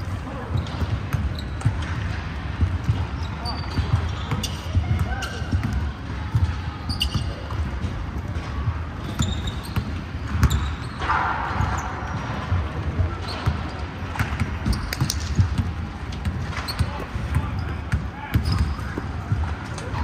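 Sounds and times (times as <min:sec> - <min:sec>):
sneakers squeaking: 0:00.0 - 0:20.0
basketballs bouncing on hardwood: 0:00.5 - 0:10.9, 0:12.2 - 0:19.6.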